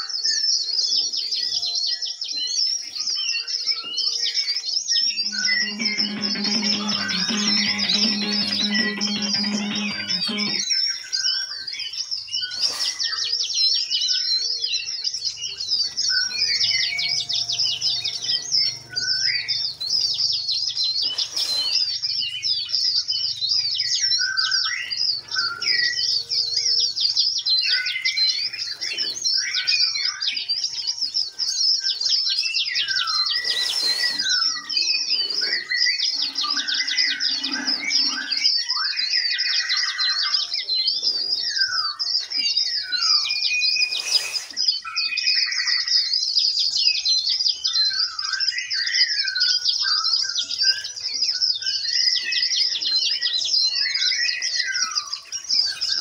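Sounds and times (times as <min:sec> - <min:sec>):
birds whistling calls: 0:00.0 - 0:56.0
songbirds chirping: 0:00.0 - 0:56.0.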